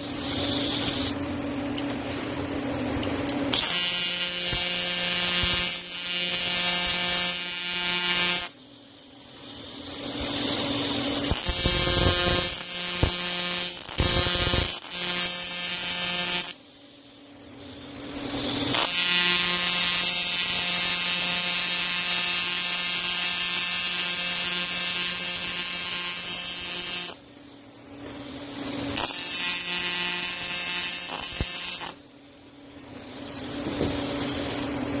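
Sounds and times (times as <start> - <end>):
machine buzzing and hissing: 0.0 - 35.0.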